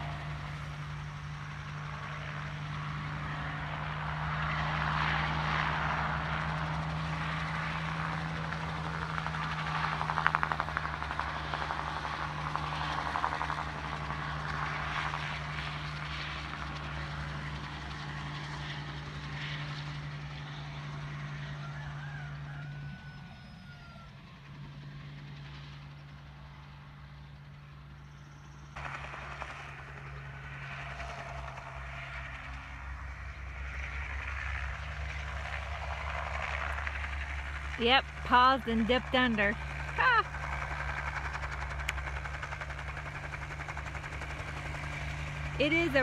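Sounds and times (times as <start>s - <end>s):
distant helicopter engine and rotor: 0.0s - 46.0s.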